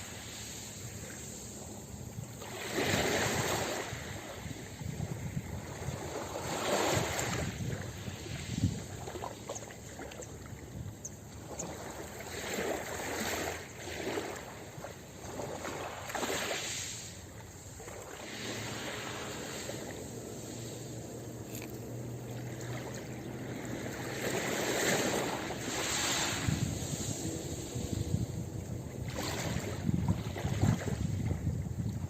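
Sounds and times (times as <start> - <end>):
ocean waves washing onto beach: 0.0 - 32.0.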